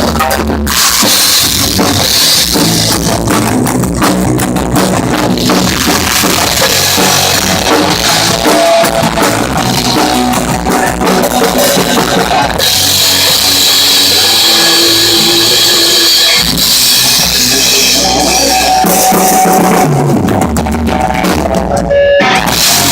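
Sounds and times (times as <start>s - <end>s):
rock music with drums and guitar: 0.0s - 22.9s.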